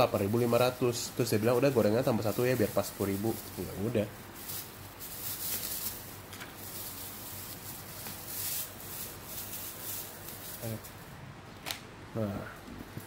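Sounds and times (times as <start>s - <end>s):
plastic bag rustling: 0.0s - 11.8s.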